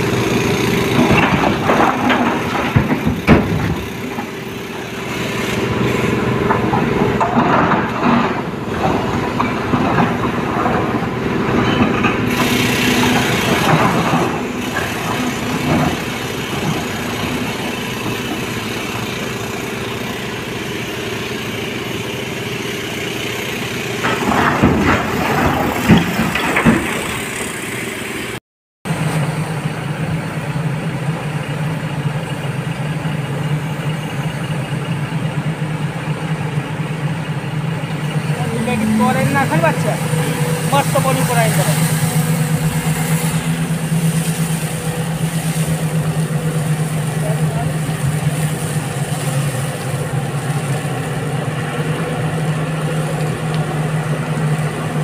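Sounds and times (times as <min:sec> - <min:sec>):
heavy diesel engine hum: 0:00.0 - 0:55.0.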